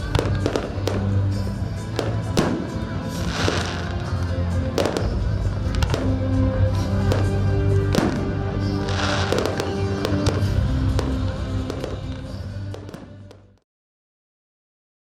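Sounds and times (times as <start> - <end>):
firework bangs: 0.0 - 13.5
firework crackling: 0.0 - 13.6.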